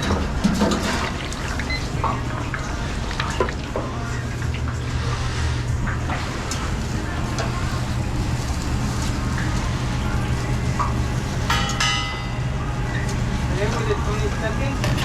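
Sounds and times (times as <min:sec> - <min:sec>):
ventilation hum: 0:00.0 - 0:15.0
cooking sizzling: 0:00.3 - 0:14.8.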